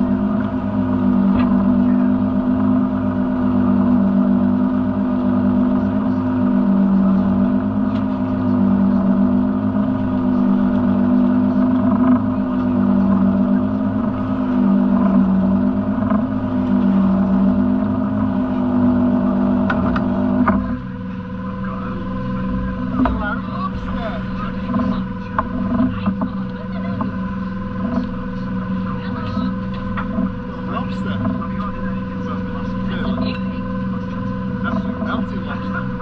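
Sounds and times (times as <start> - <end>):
boat engine drone: 0.0 - 36.0.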